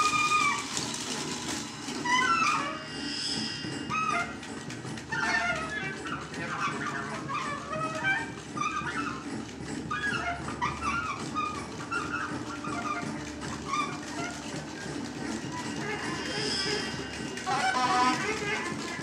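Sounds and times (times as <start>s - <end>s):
avant-garde improvised music: 0.0s - 19.0s.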